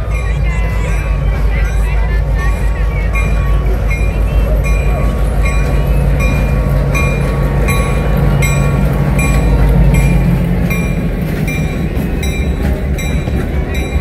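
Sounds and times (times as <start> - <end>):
diesel locomotive engine: 0.0 - 14.0
locomotive bell ringing: 0.0 - 14.0
train coaches rolling: 0.0 - 14.0.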